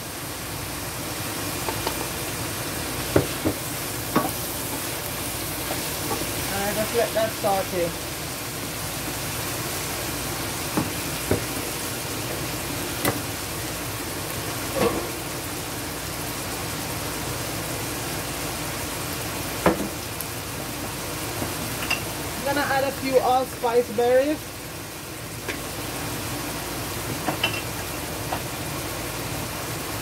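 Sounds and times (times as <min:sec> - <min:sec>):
vegetables sizzling in pan: 0:00.0 - 0:30.0.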